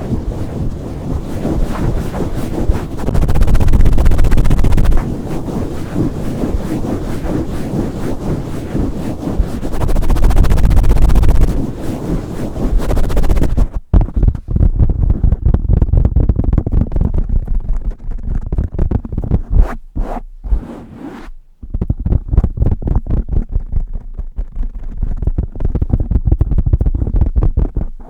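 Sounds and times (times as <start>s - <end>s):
rubbing on microphone: 0.0s - 28.0s
scratching and tapping on microphone: 0.0s - 28.0s.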